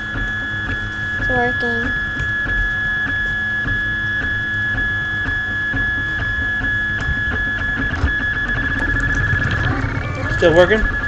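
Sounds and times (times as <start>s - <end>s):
printer motor whine: 0.0s - 11.0s.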